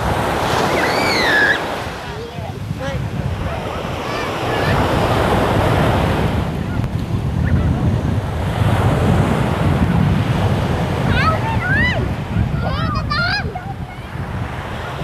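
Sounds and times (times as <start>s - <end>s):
small waves washing up beach: 0.0s - 15.0s
wind buffeting microphone: 0.0s - 15.0s.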